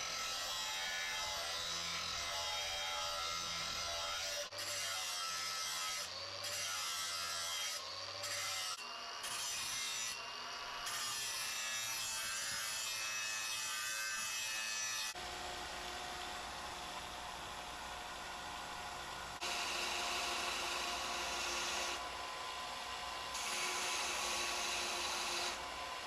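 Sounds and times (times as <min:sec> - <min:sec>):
blade grinding on belt sander: 0:00.0 - 0:17.5, 0:18.2 - 0:26.0.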